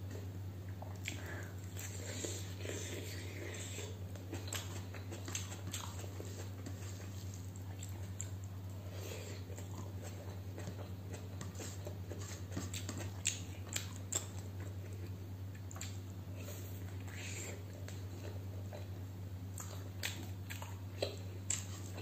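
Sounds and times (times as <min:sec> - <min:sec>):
steady low hum: 0:00.0 - 0:22.0
chewing: 0:00.1 - 0:22.0.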